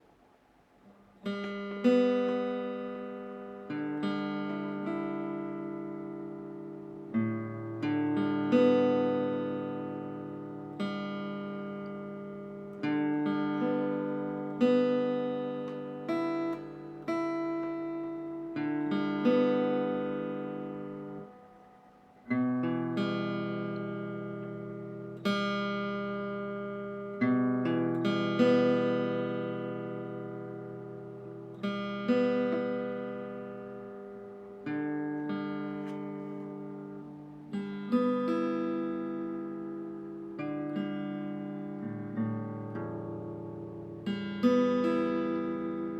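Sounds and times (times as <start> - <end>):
acoustic guitar chords: 0.0 - 45.9.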